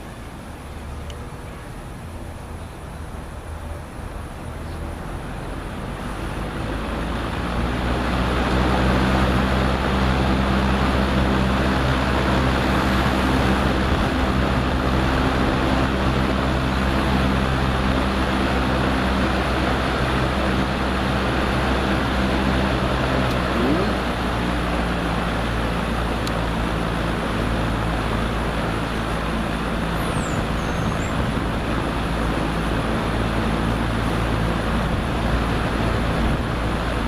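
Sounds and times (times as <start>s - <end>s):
box fan running: 0.0s - 37.0s.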